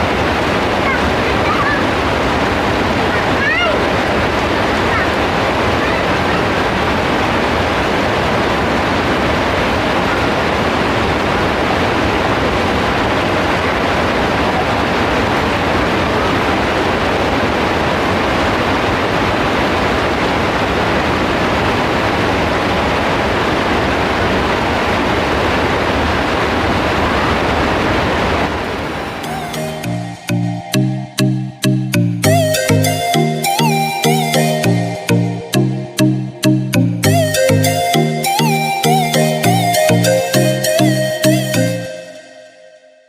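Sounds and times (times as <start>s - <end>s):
heavy rain pouring: 0.0s - 42.4s.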